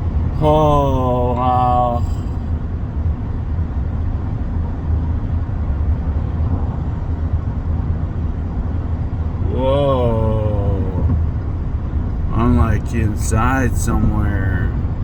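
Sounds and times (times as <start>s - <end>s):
car engine rumble: 0.0s - 15.0s
tyre road noise: 0.0s - 15.0s.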